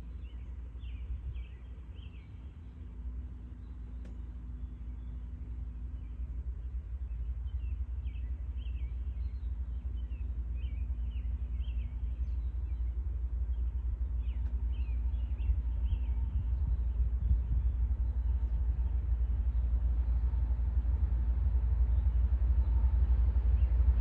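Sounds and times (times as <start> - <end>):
distant freight train rumble: 0.0 - 24.0.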